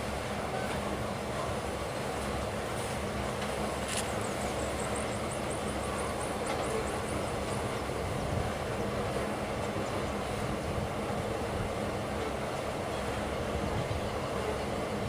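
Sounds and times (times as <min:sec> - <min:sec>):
train wagons rumbling on rails: 0:00.0 - 0:15.0.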